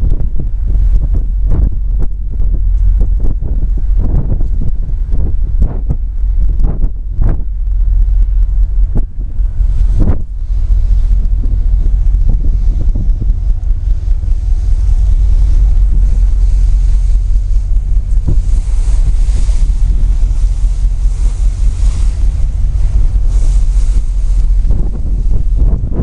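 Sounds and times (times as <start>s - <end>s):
hiss of wind and water: 0.0s - 26.0s
tugboat engine rumble: 0.0s - 26.0s
wind buffeting microphone: 0.0s - 26.0s.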